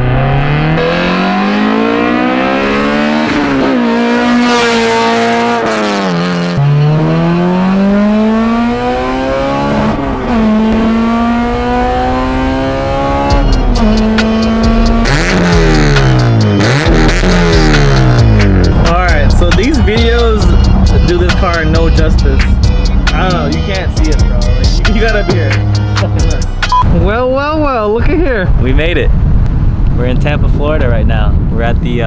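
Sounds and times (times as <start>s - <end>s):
car engine revving through gears: 0.0s - 26.8s.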